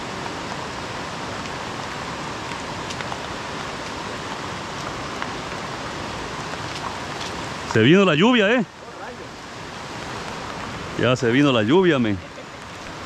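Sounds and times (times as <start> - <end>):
heavy rain: 0.0 - 13.0
river rushing over rocks: 0.0 - 13.0
rain drop ticks: 0.7 - 8.2, 9.9 - 13.0.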